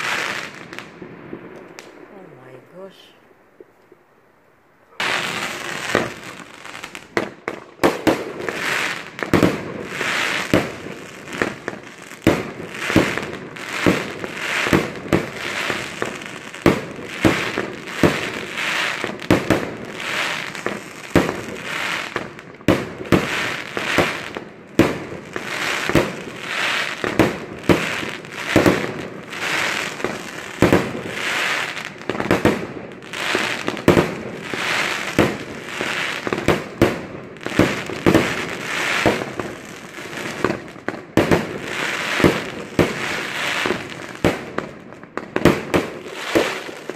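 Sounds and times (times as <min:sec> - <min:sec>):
fireworks bangs: 0:00.0 - 0:04.1, 0:04.8 - 0:46.9
fireworks crackling: 0:00.0 - 0:46.9.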